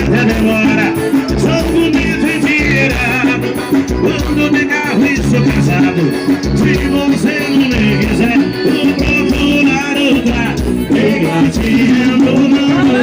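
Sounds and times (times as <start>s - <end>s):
band music with singing: 0.0s - 13.0s
bass drum beat: 0.0s - 13.0s.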